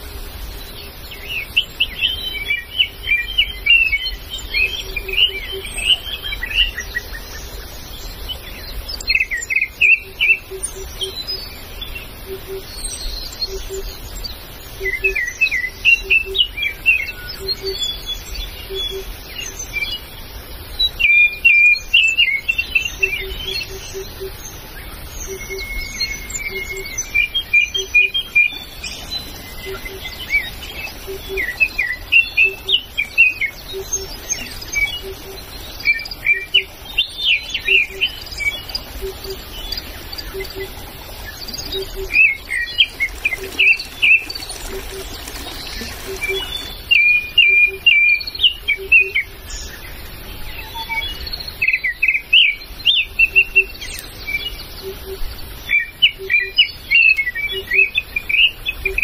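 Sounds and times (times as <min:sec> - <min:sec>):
birds chirping and trilling: 0:00.0 - 0:59.0.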